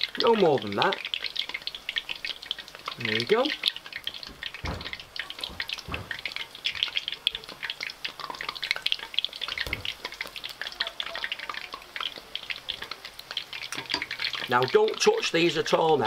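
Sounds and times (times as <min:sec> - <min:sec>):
fritters deep-frying in oil: 0:00.0 - 0:16.0.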